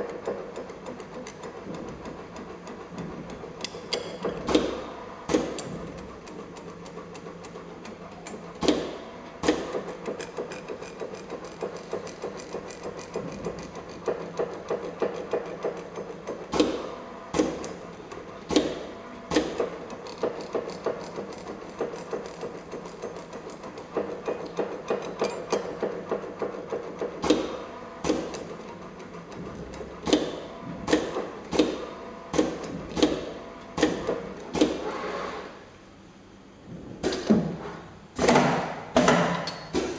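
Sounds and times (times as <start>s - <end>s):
machine motor hum: 0.0s - 39.9s.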